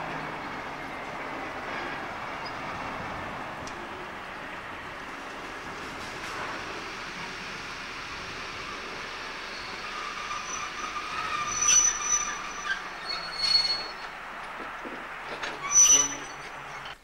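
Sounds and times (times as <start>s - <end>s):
locomotive rumble: 0.0s - 17.0s
train wheels squealing on rails: 0.0s - 17.0s.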